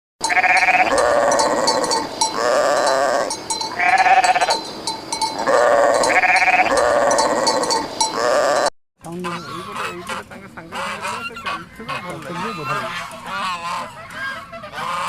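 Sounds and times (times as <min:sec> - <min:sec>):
repeated animal calls: 0:00.2 - 0:15.0.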